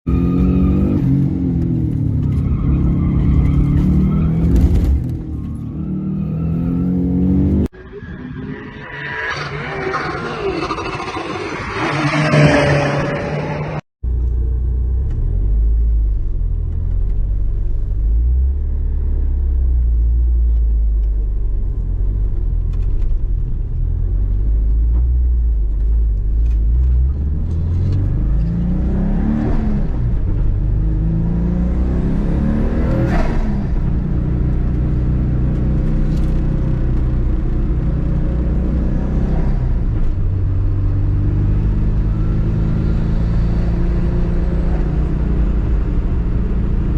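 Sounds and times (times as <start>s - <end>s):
car engine rumbling and revving: 0.0s - 46.9s.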